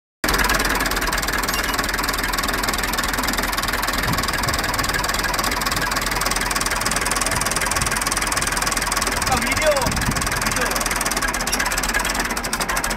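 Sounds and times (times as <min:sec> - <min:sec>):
tractor engine running: 0:00.2 - 0:12.9.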